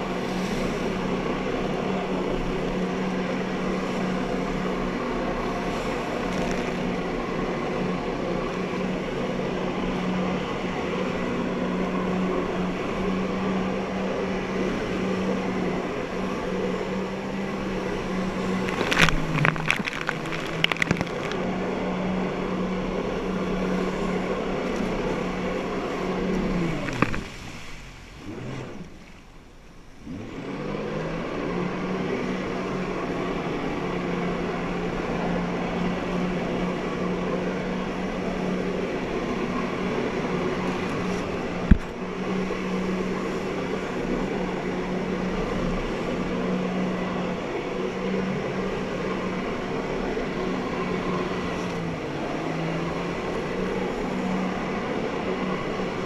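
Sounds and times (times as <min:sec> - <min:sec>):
rushing water: 0:00.0 - 0:56.0
watercraft engine drone: 0:00.0 - 0:56.0.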